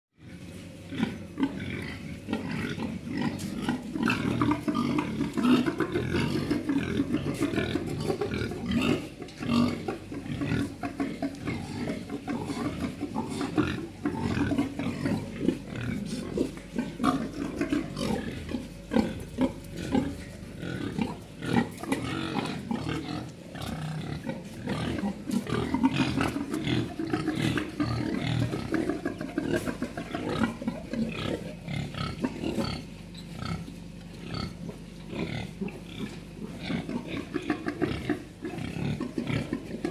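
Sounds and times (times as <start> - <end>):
pigs grunting: 0.2 - 39.9.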